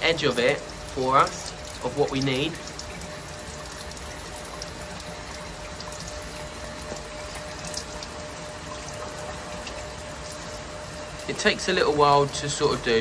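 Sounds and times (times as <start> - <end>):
faint steady hum: 0.0 - 13.0
water and pump rushing: 0.0 - 13.0.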